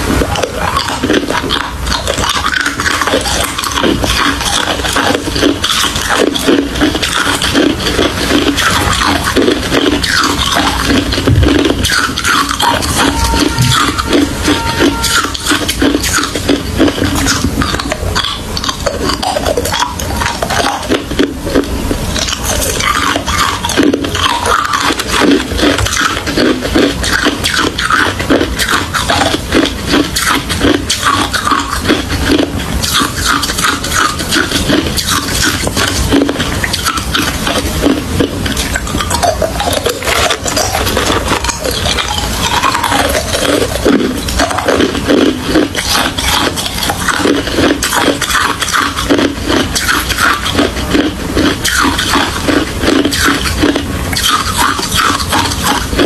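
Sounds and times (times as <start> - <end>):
chewing crushed ice: 0.0 - 56.0.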